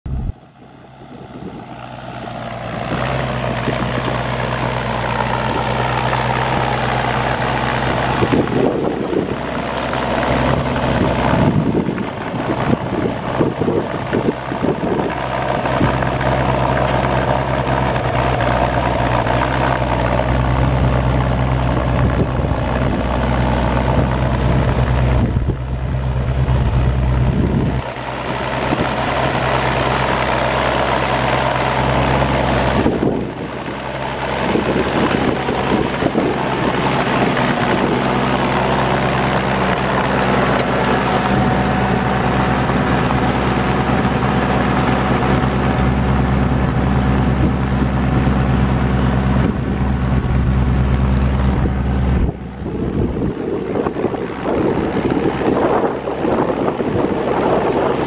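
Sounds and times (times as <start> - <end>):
tractor engine idling: 0.1 - 58.0.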